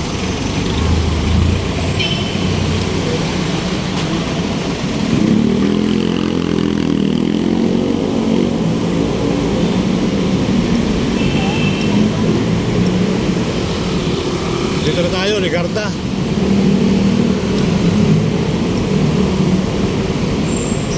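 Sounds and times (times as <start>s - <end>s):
city street traffic: 0.0s - 20.9s.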